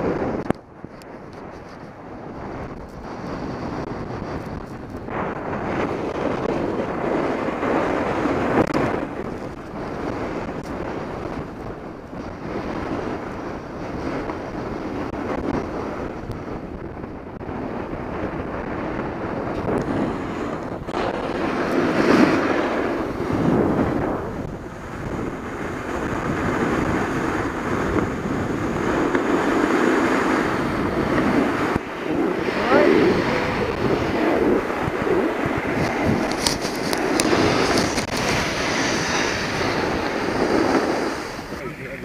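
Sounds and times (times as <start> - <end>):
snowboard scraping on snow: 0.0 - 42.0
wind buffeting microphone: 0.0 - 42.0.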